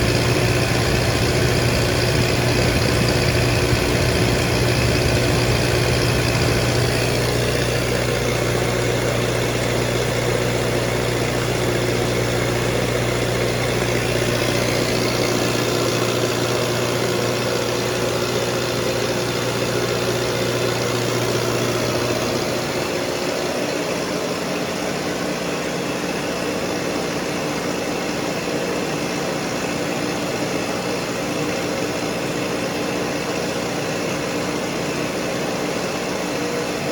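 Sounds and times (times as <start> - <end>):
diesel generator running: 0.0 - 36.9.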